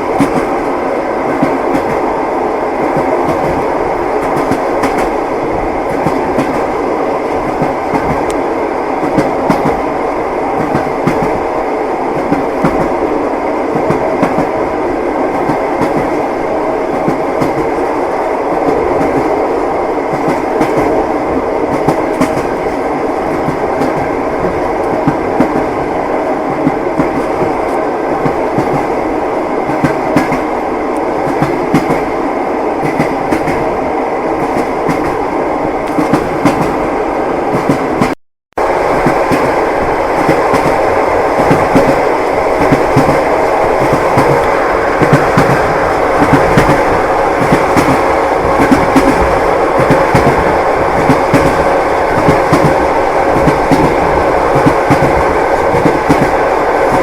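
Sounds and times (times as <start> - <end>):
train carriage running noise: 0.0 - 57.0.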